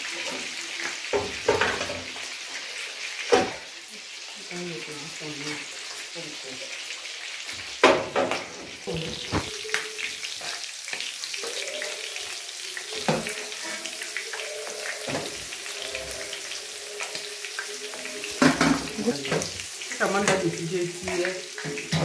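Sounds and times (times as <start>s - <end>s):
food sizzling in frying pan: 0.0s - 22.0s.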